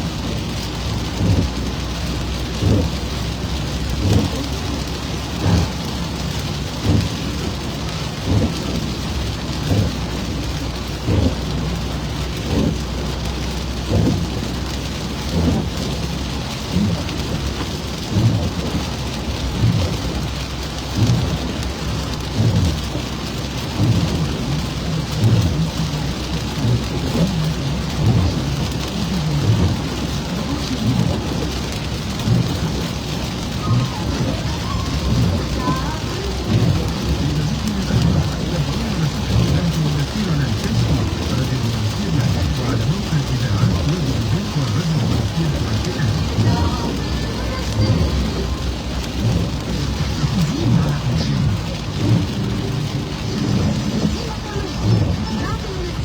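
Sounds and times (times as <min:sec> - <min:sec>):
rain hissing on a car: 0:00.0 - 0:56.0.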